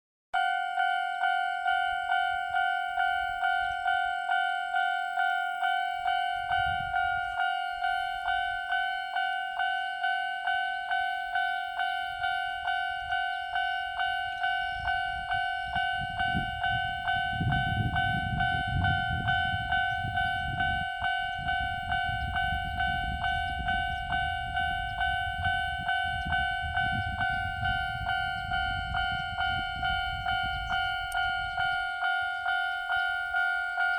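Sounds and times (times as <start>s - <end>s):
level-crossing alarm ringing: 0.4s - 33.9s
train rumbling past: 0.4s - 33.9s.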